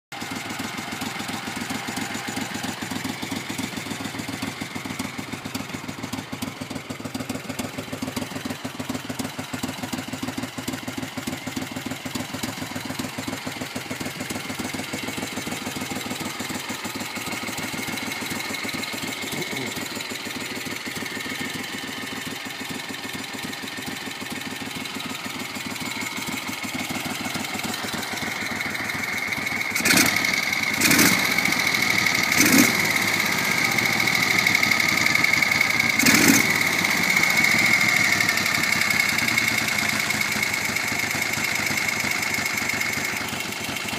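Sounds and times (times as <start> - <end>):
motorcycle engine idling: 0.1 - 43.9.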